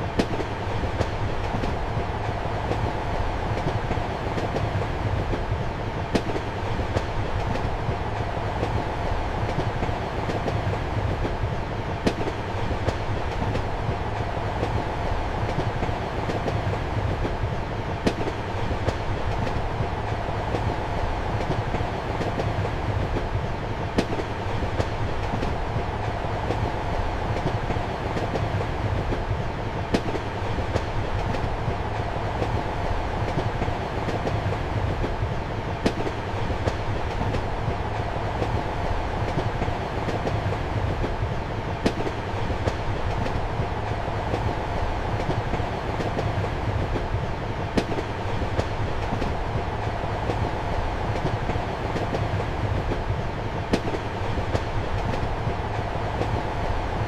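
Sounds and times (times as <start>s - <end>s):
rail joint clicks: 0.0s - 57.0s
train wheels rumbling on rails: 0.0s - 57.0s
sharp train clack: 8.5s - 57.0s.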